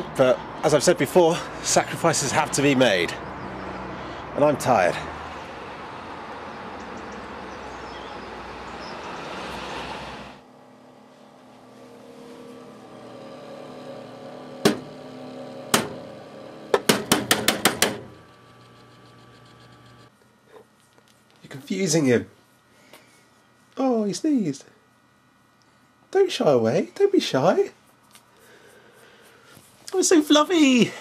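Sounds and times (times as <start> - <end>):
computer fans humming: 0.0 - 31.0.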